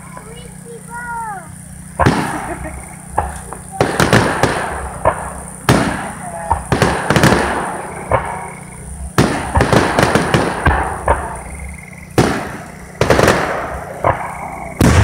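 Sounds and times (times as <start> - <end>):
firework crackling: 0.0 - 15.0
firework shells bursting: 0.1 - 15.0.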